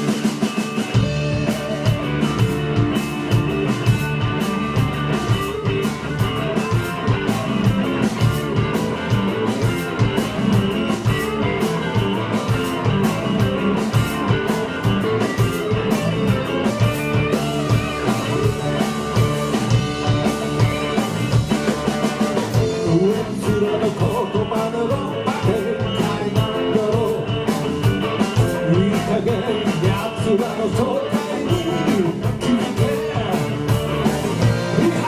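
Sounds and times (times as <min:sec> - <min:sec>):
bass guitar: 0:00.0 - 0:35.0
drum kit: 0:00.0 - 0:35.0
electric guitar: 0:00.0 - 0:35.0.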